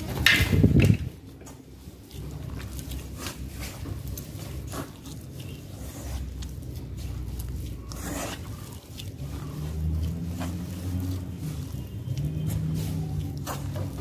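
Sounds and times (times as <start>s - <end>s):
hand scraping in metal bowl: 0.0s - 14.0s.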